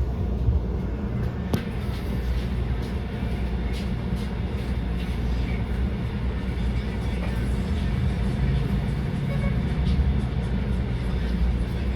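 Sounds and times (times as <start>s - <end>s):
trolley rumbling on street track: 0.0s - 11.9s.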